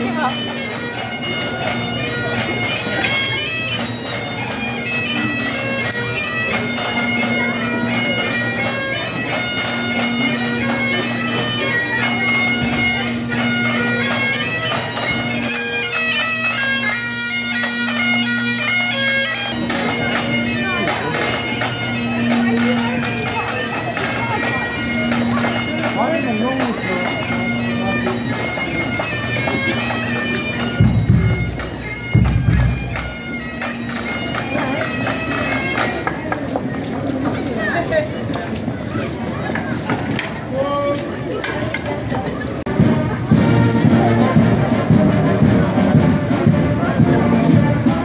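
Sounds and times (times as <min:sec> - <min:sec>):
bagpipe drone: 0:00.0 - 0:48.0
bagpipes playing a tune: 0:00.0 - 0:48.0.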